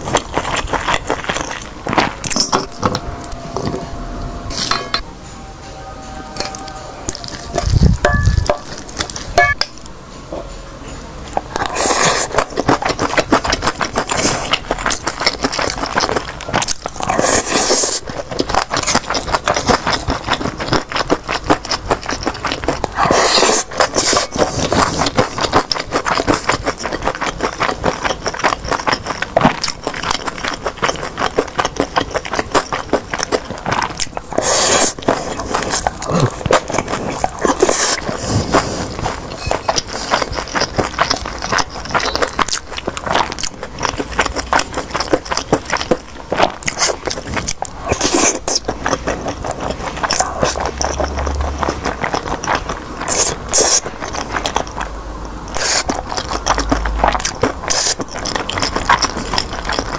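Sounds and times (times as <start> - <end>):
chewing crisp food: 0.0 - 4.0, 6.4 - 10.5, 11.2 - 59.9.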